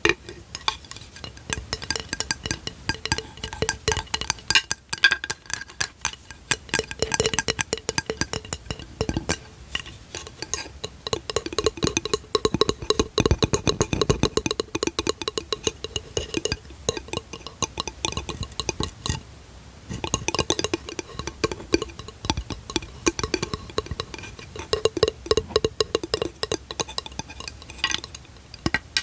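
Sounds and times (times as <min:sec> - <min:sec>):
fingers tapping on hard object: 0:00.0 - 0:19.2, 0:19.9 - 0:29.0.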